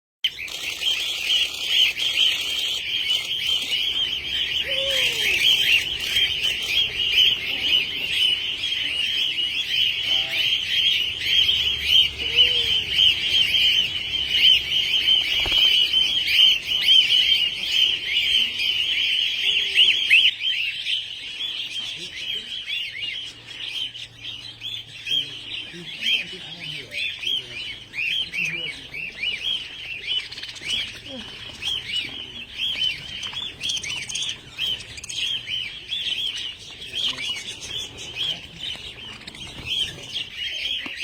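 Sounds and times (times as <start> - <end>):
lower falling bird calls: 0.2 - 41.0
small parrots chattering: 0.2 - 41.0.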